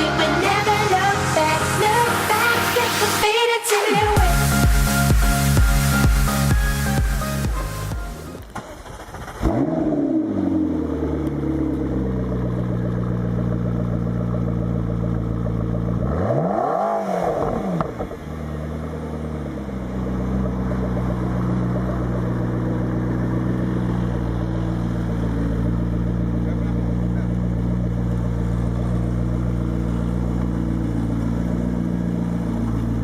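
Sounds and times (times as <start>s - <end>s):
car engine starting and idling: 0.0s - 33.0s
engine revving: 0.0s - 33.0s.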